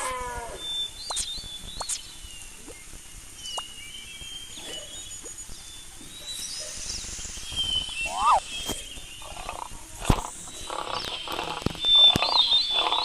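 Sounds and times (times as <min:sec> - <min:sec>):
birds chirping: 0:00.0 - 0:13.0
faint outdoor background noise: 0:00.0 - 0:13.0.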